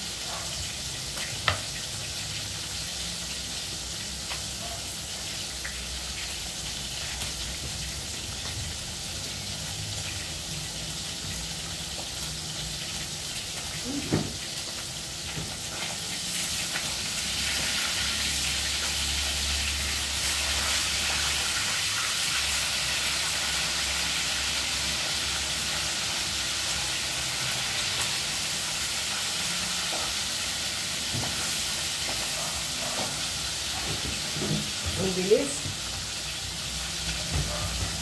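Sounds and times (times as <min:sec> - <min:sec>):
food sizzling in a wok: 0:00.0 - 0:38.0.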